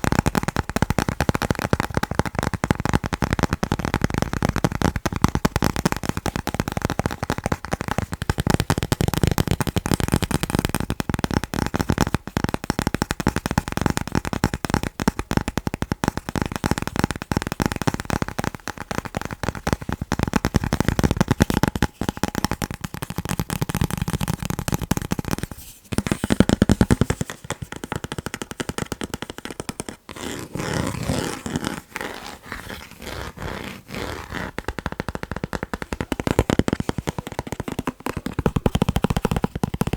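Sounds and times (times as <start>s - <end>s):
rapid tapping on chocolate: 0.0s - 30.1s, 34.5s - 39.9s.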